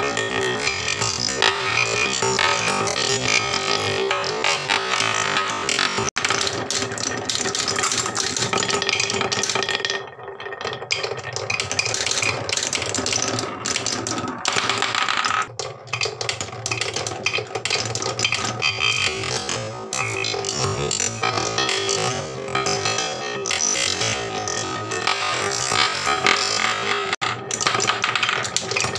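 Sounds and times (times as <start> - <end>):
marbles clattering on wooden rail: 0.0 - 28.9.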